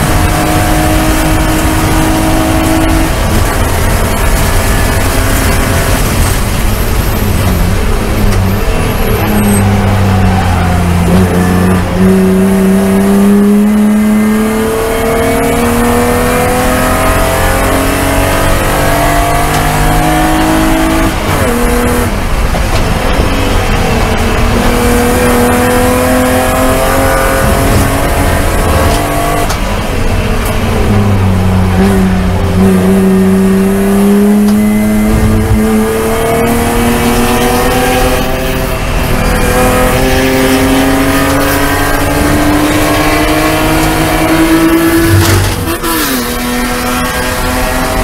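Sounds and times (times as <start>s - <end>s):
race car engine under full throttle: 0.0s - 48.0s.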